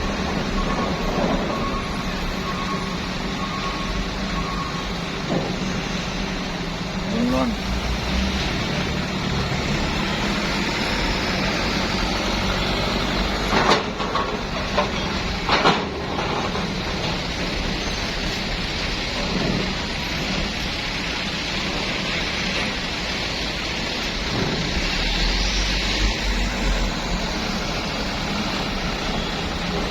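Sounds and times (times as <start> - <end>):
bus engine rumble: 0.0 - 29.9.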